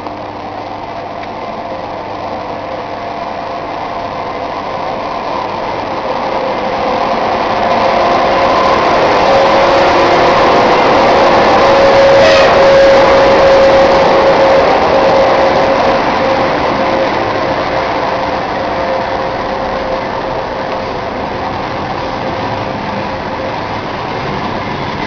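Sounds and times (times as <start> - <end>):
electric locomotive whine: 0.0 - 25.0
train rolling noise: 0.0 - 25.0.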